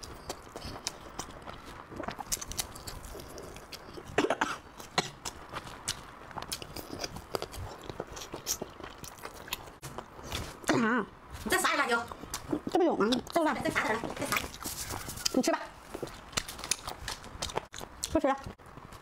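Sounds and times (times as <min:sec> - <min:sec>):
person chewing and lip smacking: 0:00.0 - 0:10.7, 0:12.1 - 0:13.4, 0:14.3 - 0:18.2.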